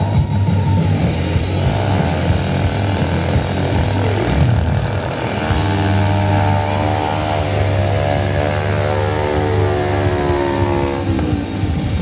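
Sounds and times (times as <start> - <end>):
dirt bike engine droning: 0.0 - 12.0
loud show music: 0.0 - 12.0.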